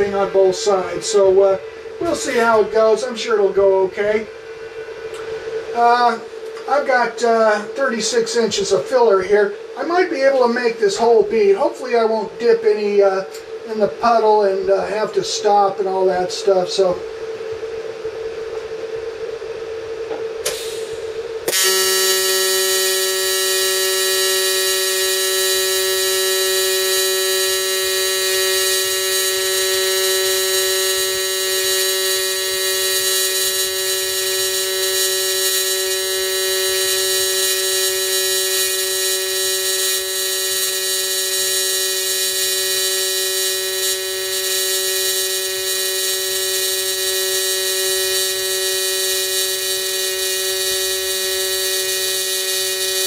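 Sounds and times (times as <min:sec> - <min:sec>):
welding arc high-pitched buzz: 0:00.0 - 0:17.1, 0:19.9 - 0:53.0.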